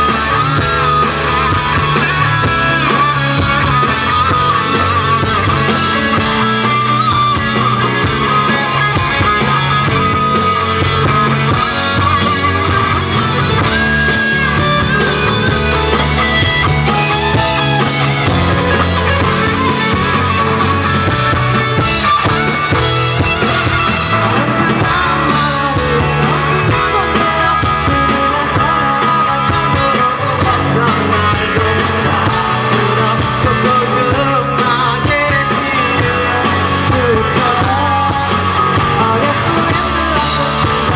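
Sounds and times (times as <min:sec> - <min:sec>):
live pop-rock band with singing: 0:00.0 - 0:40.9.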